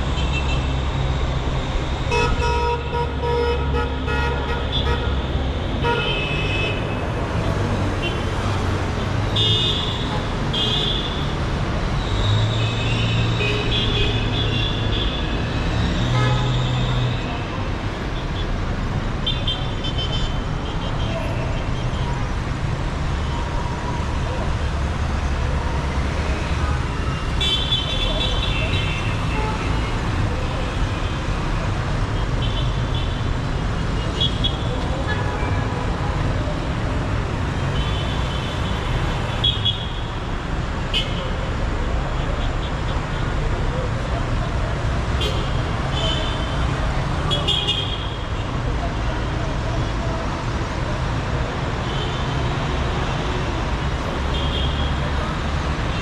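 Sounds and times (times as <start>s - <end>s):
car and bus engines running: 0.0s - 19.2s, 20.4s - 39.4s, 40.0s - 56.0s
city traffic rumble: 0.0s - 56.0s
tyres on the road: 0.0s - 56.0s.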